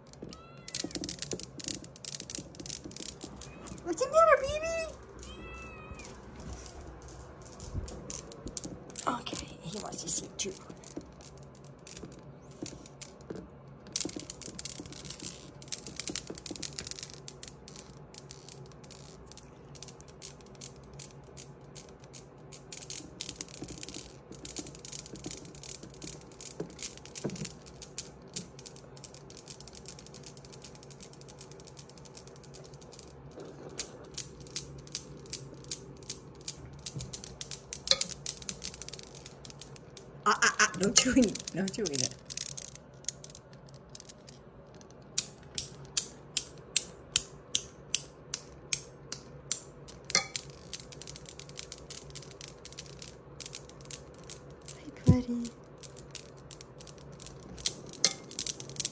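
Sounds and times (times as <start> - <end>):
steel balls clicking: 0.0 - 58.9.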